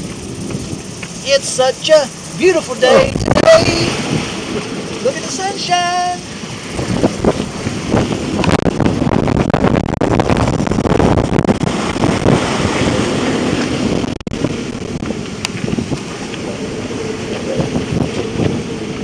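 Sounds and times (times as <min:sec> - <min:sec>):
seawater rushing and splashing: 0:00.0 - 0:19.0
wind buffeting microphone: 0:00.0 - 0:19.0.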